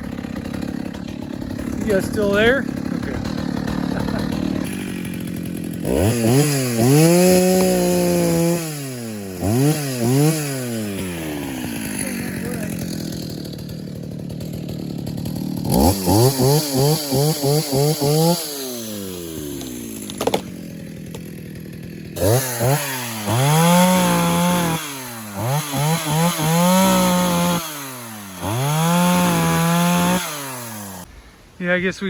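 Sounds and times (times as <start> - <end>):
chainsaw idling and revving: 0.0 - 31.1.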